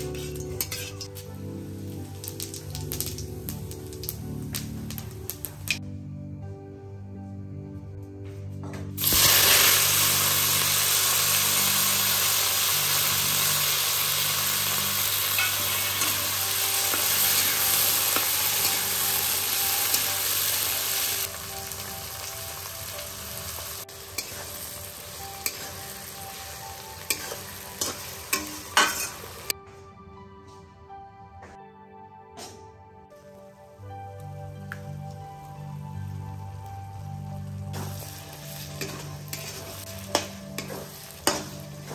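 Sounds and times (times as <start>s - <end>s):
onions sizzling in hot oil: 0.0s - 5.8s, 9.0s - 29.5s, 33.4s - 41.9s.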